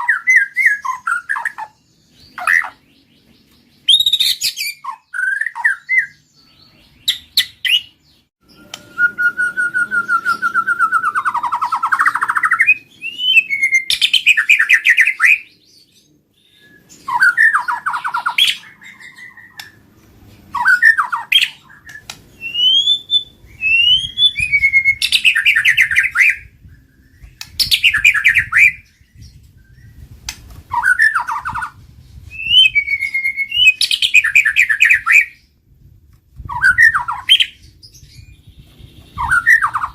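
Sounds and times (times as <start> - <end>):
bird singing trills and whistles: 0.0 - 19.9, 20.5 - 35.6, 36.4 - 39.9.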